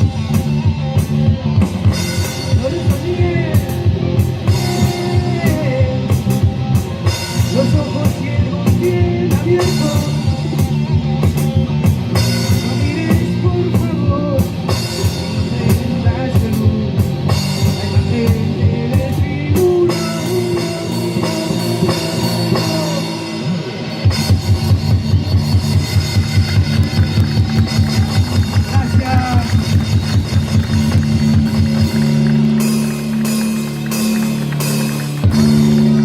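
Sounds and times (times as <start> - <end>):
deep bass: 0.0 - 36.0
drum kit beat: 0.0 - 36.0.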